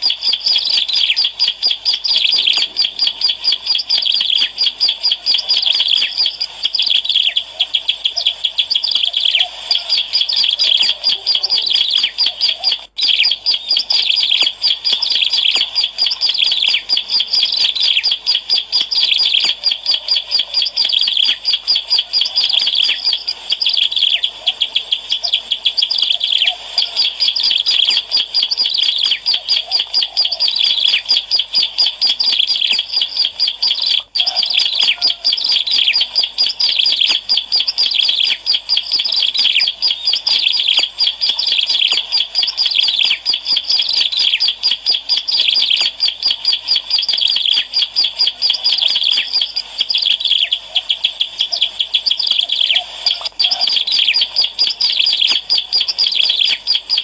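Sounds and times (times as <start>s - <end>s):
bird chirping rapidly: 0.0s - 57.0s.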